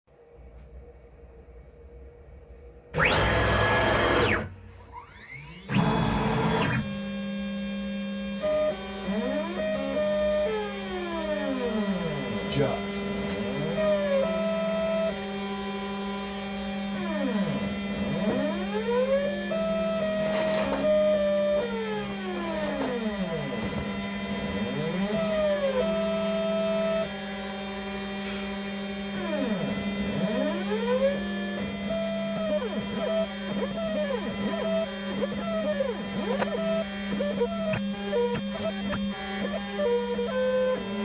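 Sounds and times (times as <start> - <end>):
stepper motors whining: 3.0 - 41.0.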